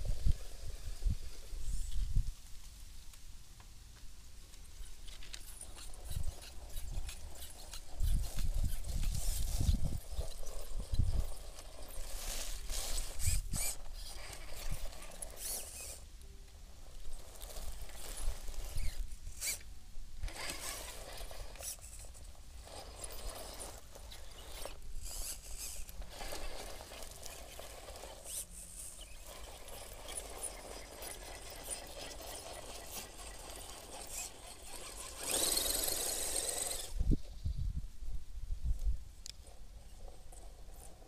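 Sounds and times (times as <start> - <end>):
toy car tyres scraping: 4.5 - 37.4, 39.2 - 41.0.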